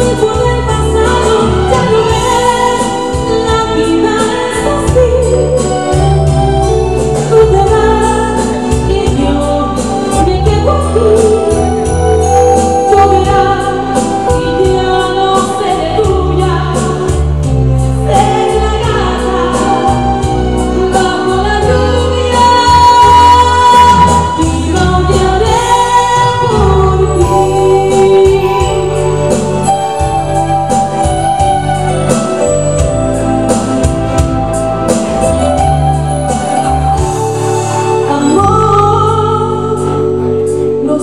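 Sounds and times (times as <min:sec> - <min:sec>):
bass: 0:00.0 - 0:41.0
keyboard: 0:00.0 - 0:41.0
woman singing into a microphone: 0:00.0 - 0:41.0.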